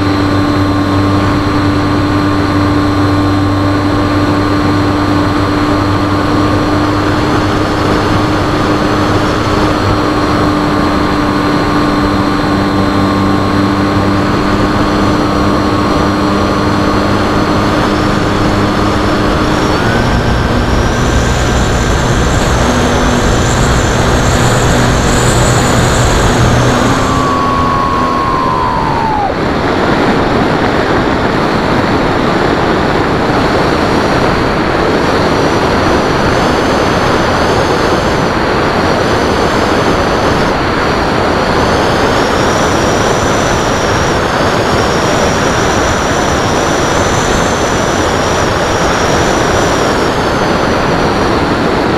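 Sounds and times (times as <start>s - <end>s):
electric motor and propeller whine: 0.0s - 51.9s
wind rushing over camera: 0.0s - 51.9s.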